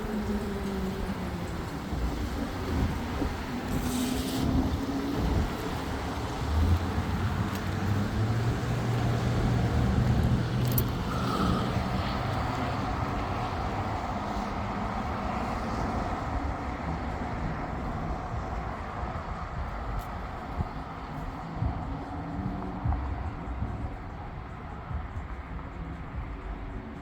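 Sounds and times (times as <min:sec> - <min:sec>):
road and wind noise: 0:00.0 - 0:27.0
vehicle engine humming: 0:00.0 - 0:27.0.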